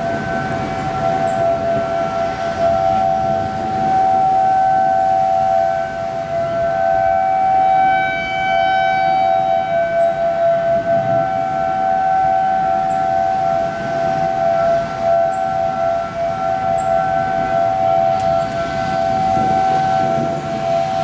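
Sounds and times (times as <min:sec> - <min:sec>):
outdoor warning sirens: 0:00.0 - 0:21.0.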